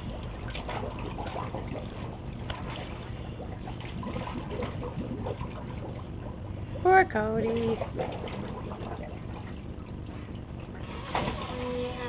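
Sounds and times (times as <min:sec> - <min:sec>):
water sloshing in a plastic pool: 0:00.0 - 0:12.0.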